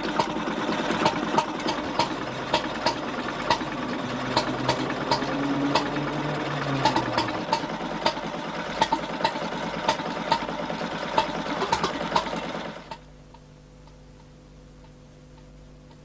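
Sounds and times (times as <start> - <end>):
stationary engine clattering: 0.0 - 13.0.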